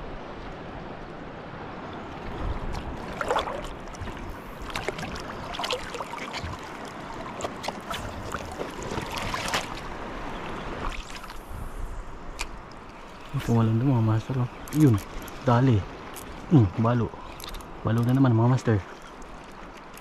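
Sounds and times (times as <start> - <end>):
small waves lapping on shore: 0.0 - 20.0.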